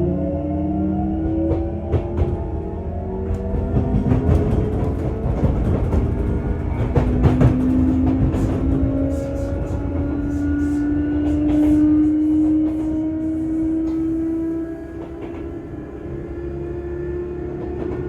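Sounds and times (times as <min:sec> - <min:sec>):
train traction motor whine: 0:00.1 - 0:18.0
train running rumble: 0:01.0 - 0:18.0.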